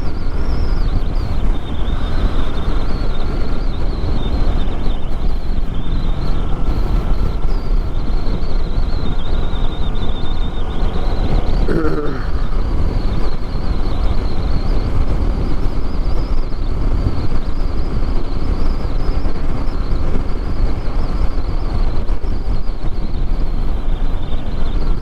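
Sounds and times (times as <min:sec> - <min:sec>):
motorcycle engine roaring: 0:00.0 - 0:25.0
wind rush: 0:00.0 - 0:25.0.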